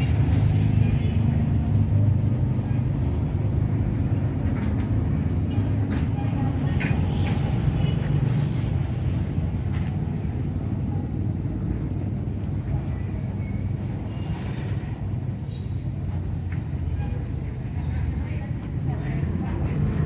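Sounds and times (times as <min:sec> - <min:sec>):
traffic engine rumble: 0:00.0 - 0:20.0.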